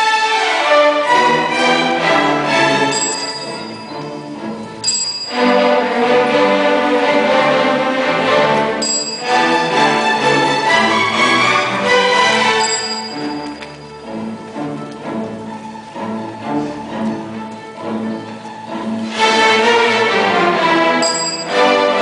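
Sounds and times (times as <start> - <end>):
string orchestra playing: 0.0 - 22.0.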